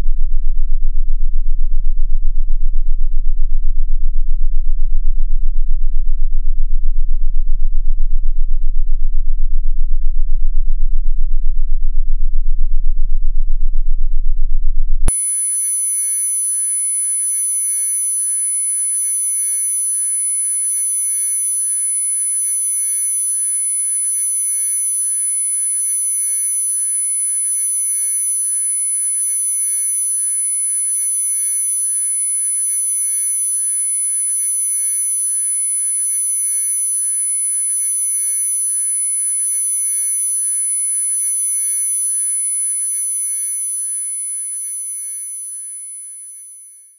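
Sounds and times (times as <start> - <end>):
high-pitched sine tone: 0.0 - 46.9.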